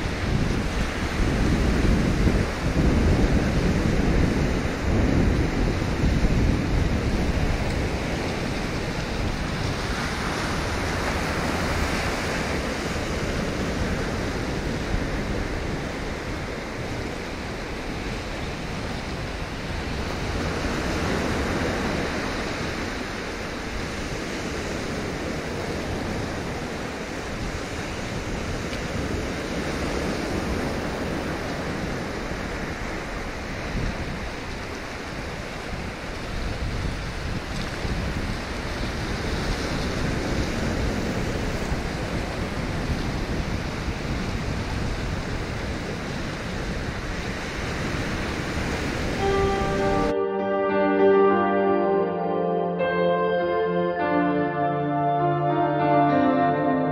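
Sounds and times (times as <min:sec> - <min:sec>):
wind rumbling on microphone: 0:00.0 - 0:50.1
surf washing on shore: 0:00.0 - 0:50.2.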